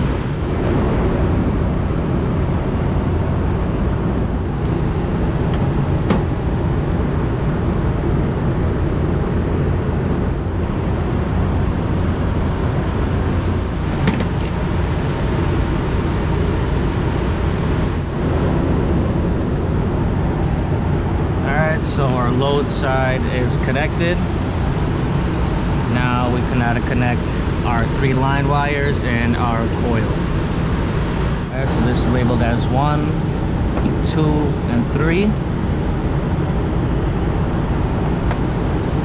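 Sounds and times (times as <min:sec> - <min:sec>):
hvac machinery drone: 0:00.0 - 0:39.0.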